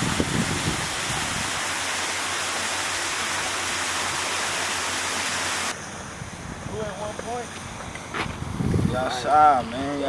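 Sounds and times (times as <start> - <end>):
running water hiss: 0.0 - 8.1.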